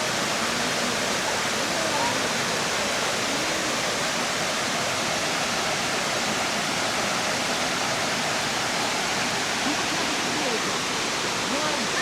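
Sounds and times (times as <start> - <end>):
waterfall cascading into pool: 0.0 - 12.0.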